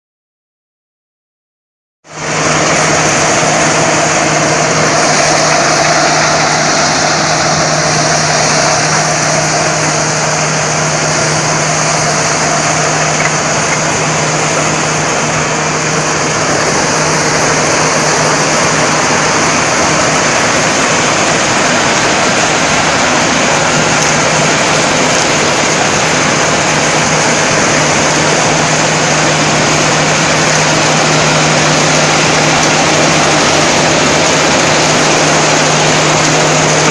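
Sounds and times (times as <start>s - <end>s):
machinery rushing noise: 2.0s - 36.9s
harvester engine droning: 2.1s - 36.9s.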